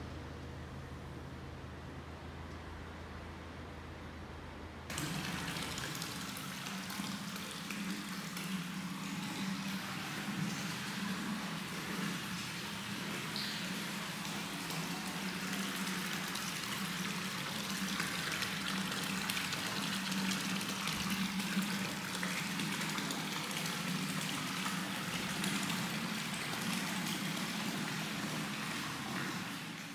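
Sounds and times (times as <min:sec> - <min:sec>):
water pouring from a pipe: 0:04.9 - 0:29.9
water splashing into a bath: 0:04.9 - 0:29.9.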